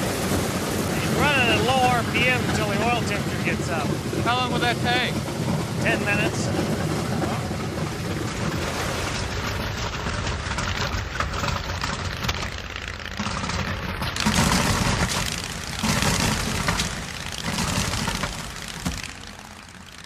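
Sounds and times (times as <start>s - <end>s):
radial aircraft engine rumbling: 0.0s - 20.0s.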